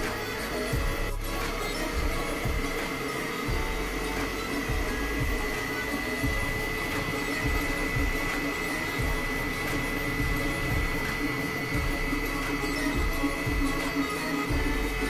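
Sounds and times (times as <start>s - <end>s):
mechanical hum: 0.0s - 15.0s
printer high whine: 0.0s - 15.0s.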